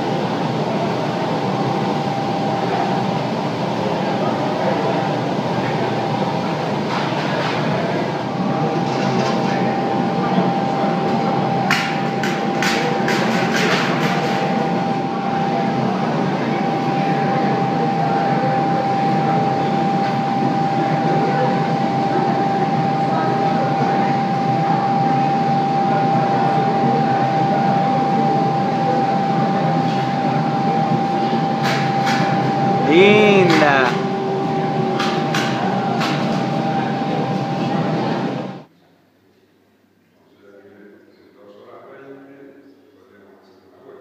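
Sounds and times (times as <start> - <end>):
constant whine: 0.0 - 38.7
gas furnace roaring: 0.0 - 38.7.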